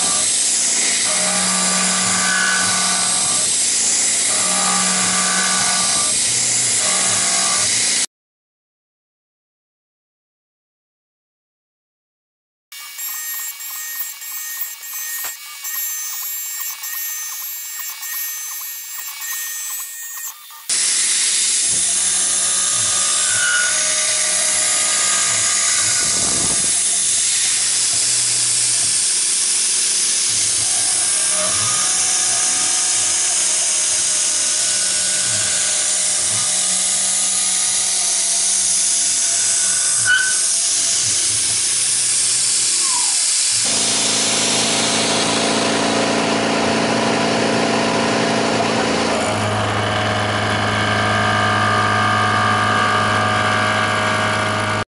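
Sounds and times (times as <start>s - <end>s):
milling machine cutting metal: 0.0s - 8.1s, 12.8s - 54.8s.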